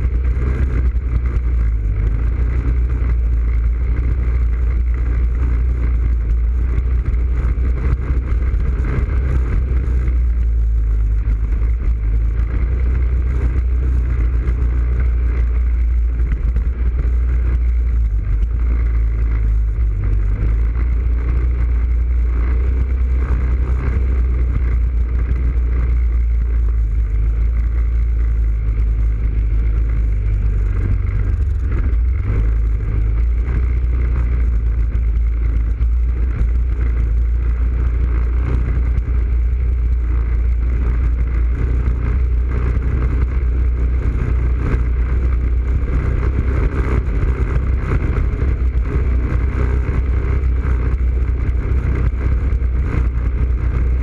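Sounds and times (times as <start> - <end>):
quad bike engine rumbling: 0.0 - 54.0.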